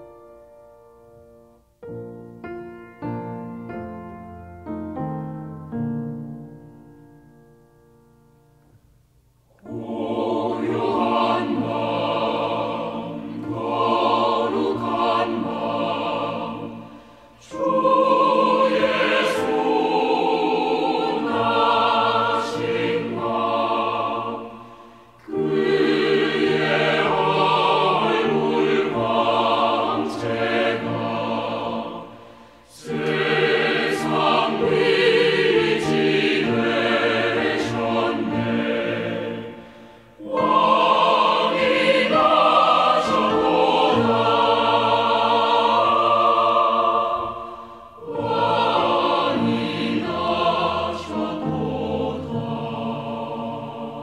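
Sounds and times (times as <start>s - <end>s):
choir singing a carol: 0.0s - 1.5s, 9.6s - 54.0s.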